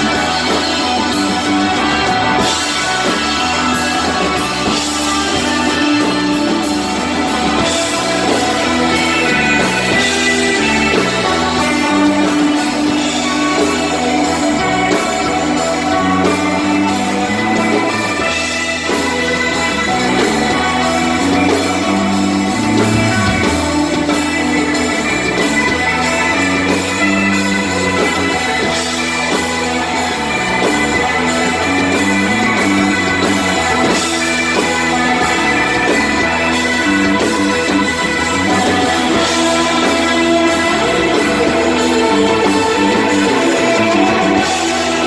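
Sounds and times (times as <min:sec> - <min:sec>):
bass guitar: 0:00.0 - 0:45.0
drum kit: 0:00.0 - 0:45.0
electric guitar: 0:00.0 - 0:45.0.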